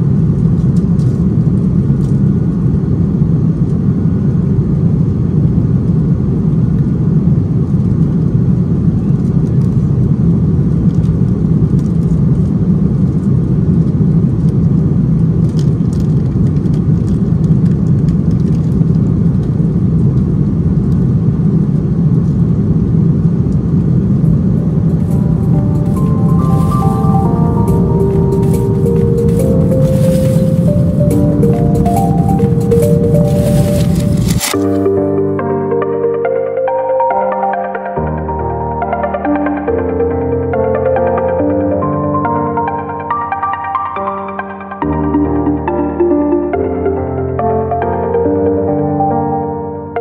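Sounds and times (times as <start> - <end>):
airplane cabin drone: 0.0 - 50.0.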